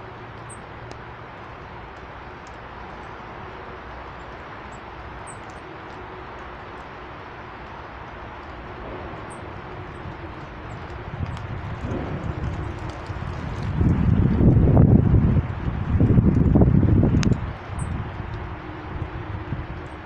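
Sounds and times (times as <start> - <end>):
outdoor background hiss: 0.0 - 20.0
wind buffeting microphone: 0.0 - 20.0.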